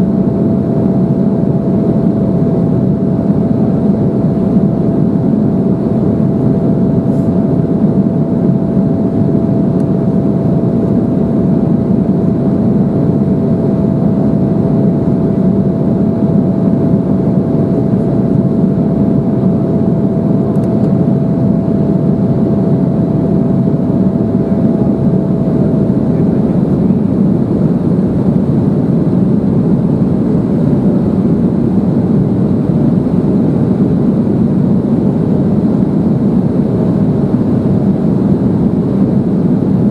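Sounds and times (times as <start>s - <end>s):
air rushing past airliner cabin: 0.0s - 39.9s
faint steady whine: 0.0s - 39.9s
jet engines droning: 0.0s - 39.9s.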